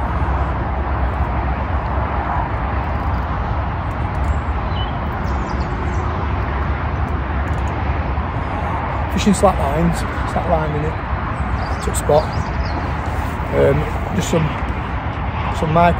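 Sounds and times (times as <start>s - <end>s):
motorway traffic rumble: 0.0s - 15.9s.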